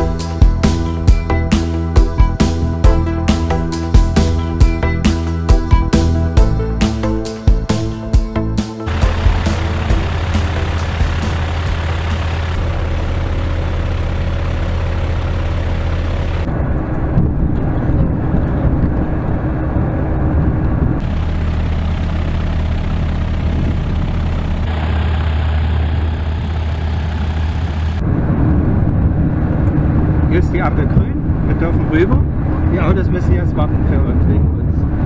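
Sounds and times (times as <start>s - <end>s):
propeller aircraft engine droning: 0.0s - 35.0s.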